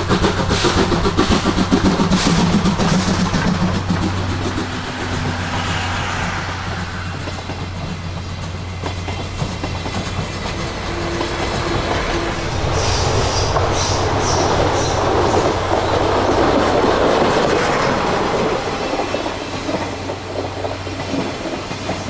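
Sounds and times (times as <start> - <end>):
steam train low rumble: 0.0 - 22.0
train wheel clatter: 0.0 - 22.0.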